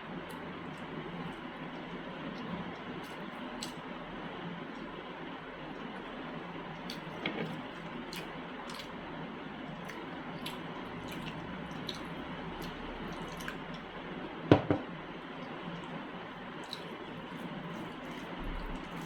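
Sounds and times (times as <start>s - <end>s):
wet squishing eating sounds: 0.1s - 14.3s, 15.1s - 19.0s.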